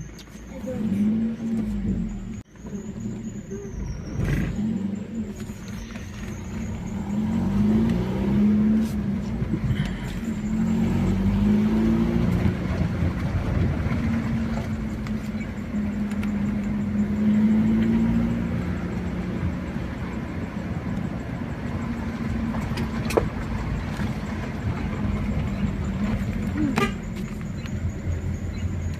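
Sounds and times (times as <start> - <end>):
car engine accelerating: 0.0 - 28.9
road rumble: 0.0 - 28.9.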